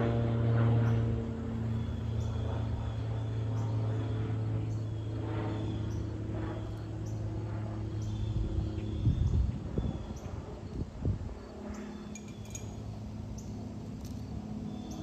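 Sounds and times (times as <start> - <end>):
propeller plane droning overhead: 0.0 - 15.0.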